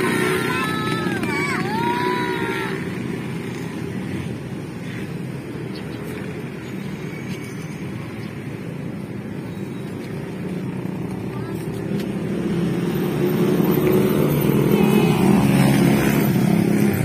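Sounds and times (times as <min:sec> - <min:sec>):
motorcycles running: 0:00.0 - 0:17.0
road traffic drone: 0:00.0 - 0:17.0.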